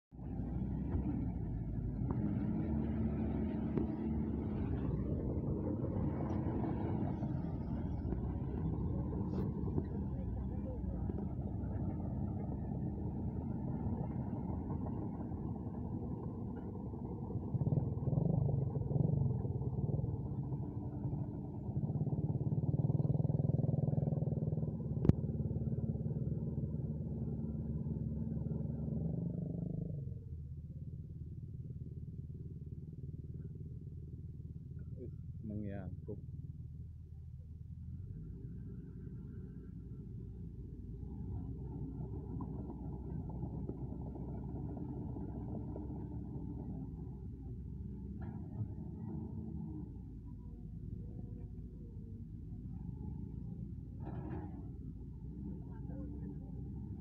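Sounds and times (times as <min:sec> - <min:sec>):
excavator diesel engine running: 0:00.2 - 0:29.2, 0:30.5 - 0:57.0.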